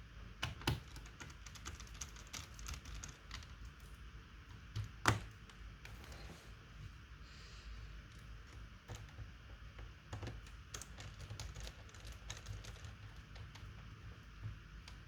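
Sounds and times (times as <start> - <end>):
laptop keyboard typing: 0.4 - 5.9, 8.1 - 15.0.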